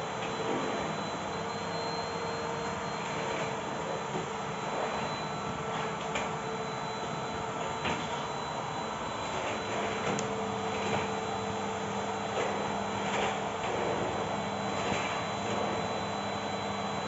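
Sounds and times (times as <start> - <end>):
vacuum cleaner whining: 0.0 - 17.0.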